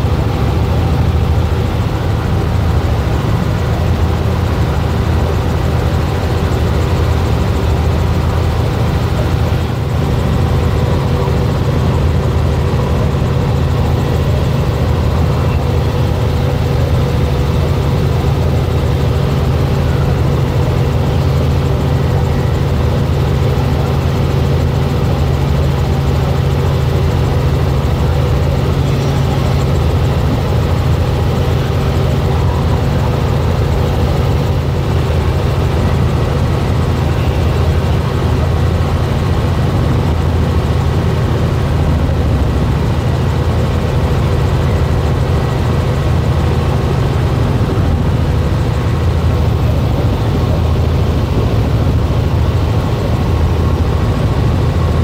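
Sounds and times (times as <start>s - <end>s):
helicopter engine and rotors droning: 0.0s - 55.0s.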